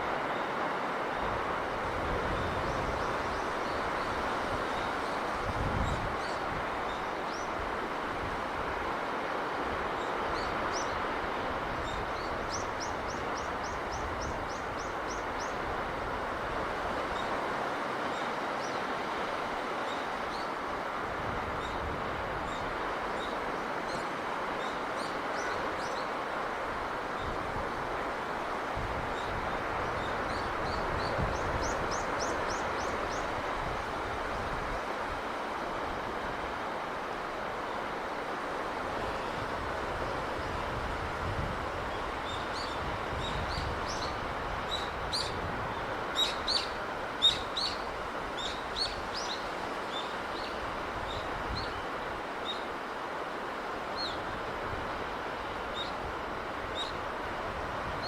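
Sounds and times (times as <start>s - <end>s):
sea breeze and surf: 0.0s - 58.0s.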